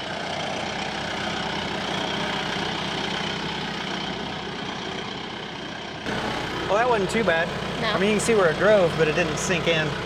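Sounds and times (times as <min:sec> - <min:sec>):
utility vehicle engine driving: 0:00.0 - 0:10.0.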